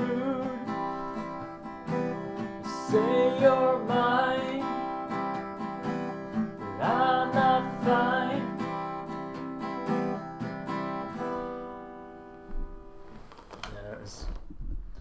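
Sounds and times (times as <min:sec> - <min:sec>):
acoustic guitar strumming: 0:00.0 - 0:13.2.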